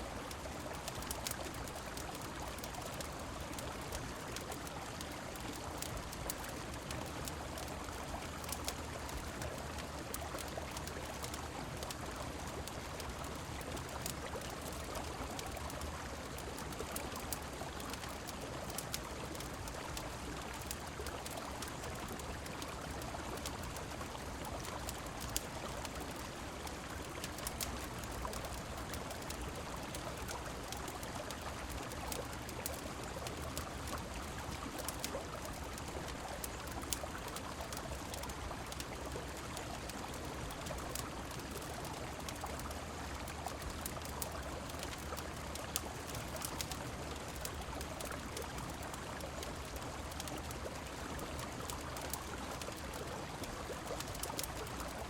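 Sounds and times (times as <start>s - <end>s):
falling rain: 0.0s - 55.0s
fireplace crackling and popping: 0.2s - 55.0s.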